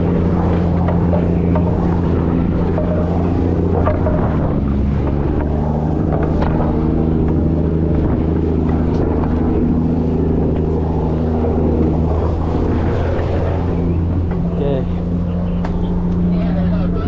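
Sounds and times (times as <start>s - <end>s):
ship engine deep drone: 0.0s - 17.0s.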